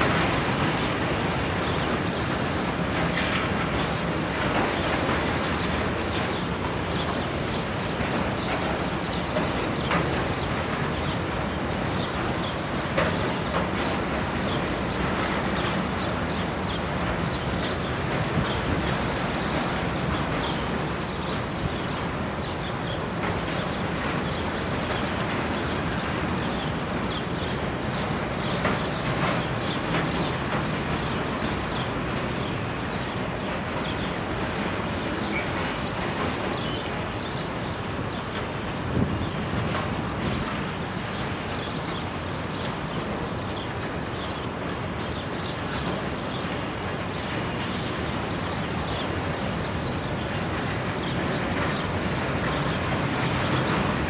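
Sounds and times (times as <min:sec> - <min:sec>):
freight wagon wheels rumbling: 0:00.0 - 0:54.0.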